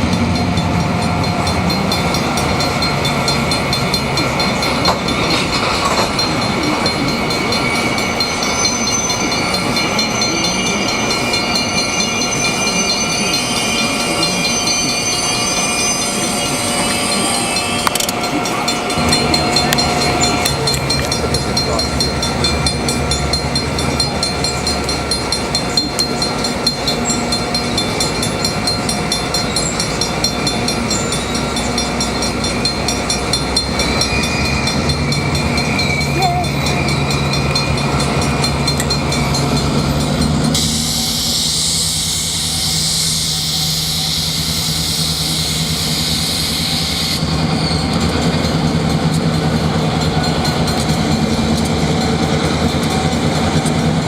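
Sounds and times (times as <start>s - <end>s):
diesel locomotive engines running: 0.0s - 54.0s
train wheels clattering on rails: 0.0s - 54.0s.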